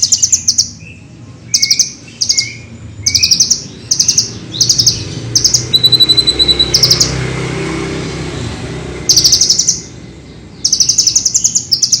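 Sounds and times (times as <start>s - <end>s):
bird singing fast high trills: 0.0s - 7.4s, 9.0s - 12.0s.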